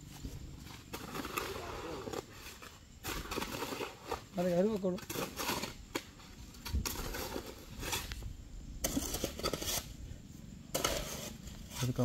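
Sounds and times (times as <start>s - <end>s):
hand tool scraping wet mud: 0.6s - 8.2s, 8.8s - 10.0s, 10.7s - 12.0s.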